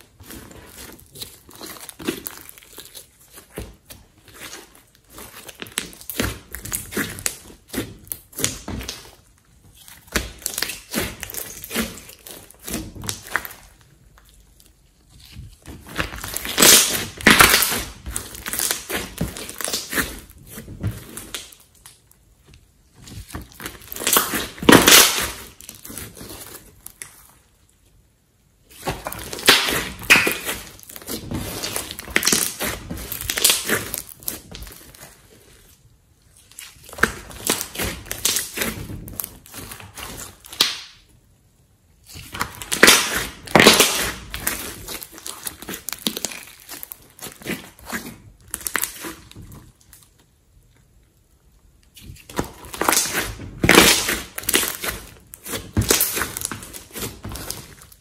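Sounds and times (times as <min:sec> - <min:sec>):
slime squishing and popping: 0:00.1 - 0:22.0, 0:23.0 - 0:27.4, 0:28.7 - 0:35.3, 0:36.4 - 0:41.1, 0:42.0 - 0:50.2, 0:51.8 - 0:58.0.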